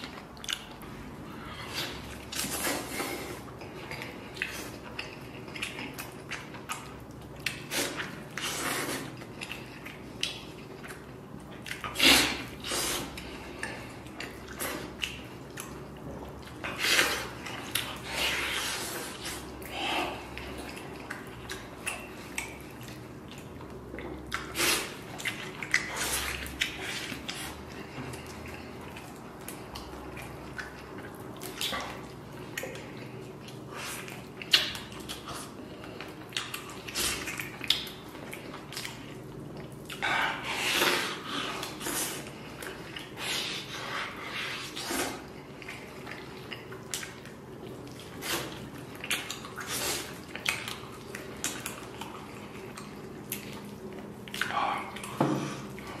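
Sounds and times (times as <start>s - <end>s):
wet chewing and lip smacking: 0.0s - 56.0s.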